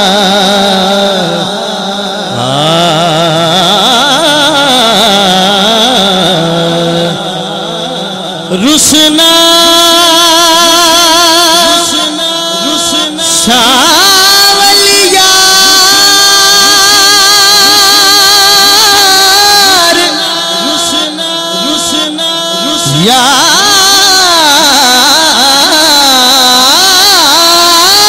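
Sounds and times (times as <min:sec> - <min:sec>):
man singing with vibrato: 0:00.0 - 0:28.0.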